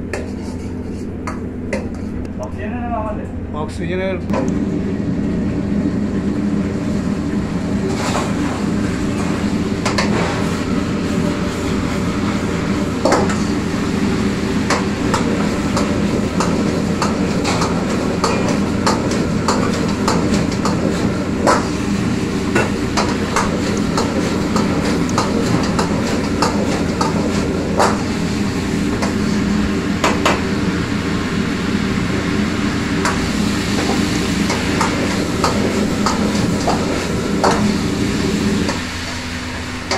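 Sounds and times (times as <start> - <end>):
stove burner roaring: 0.0 - 39.9.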